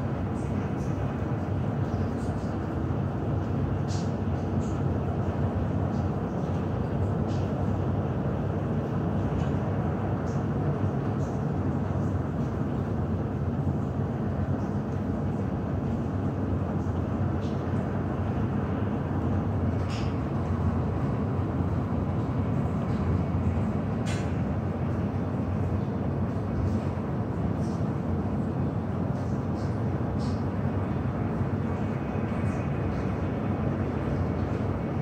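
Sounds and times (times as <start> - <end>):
low rumble of airport apron: 0.0 - 35.0.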